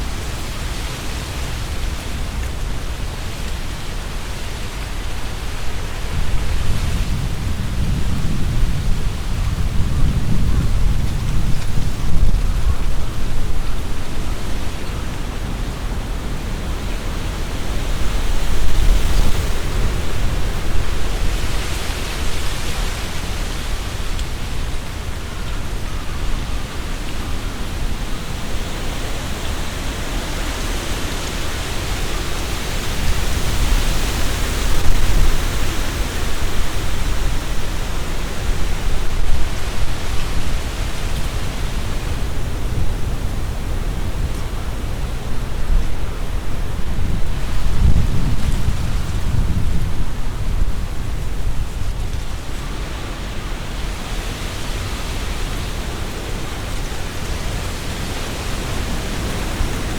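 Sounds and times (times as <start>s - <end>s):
leaves rustling in wind: 0.0s - 59.9s
wind buffeting microphone: 0.0s - 59.9s.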